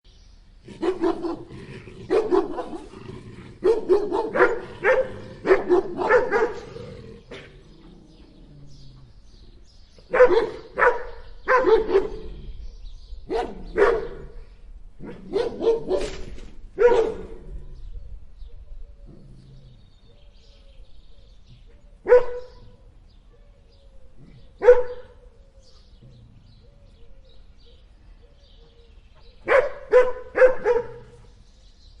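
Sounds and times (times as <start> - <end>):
big dogs barking: 0.6 - 19.8, 22.0 - 22.9, 24.1 - 27.0, 27.7 - 31.3.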